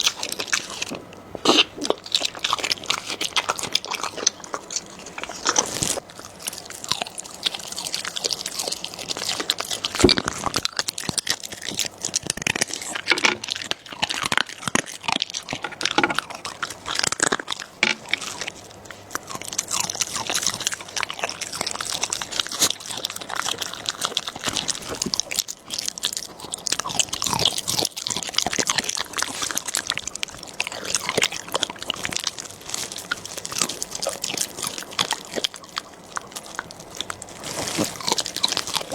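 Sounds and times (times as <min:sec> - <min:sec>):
dog crunching food: 0:00.0 - 0:38.9.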